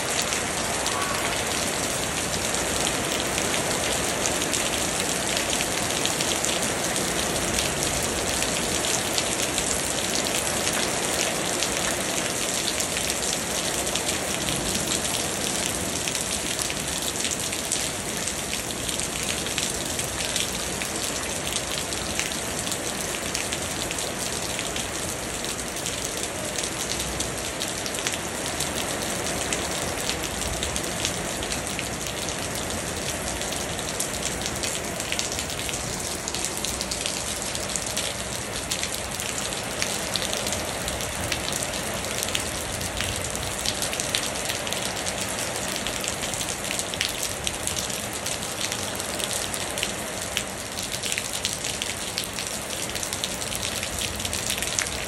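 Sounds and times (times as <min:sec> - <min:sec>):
rain falling on puddles: 0:00.0 - 0:55.0.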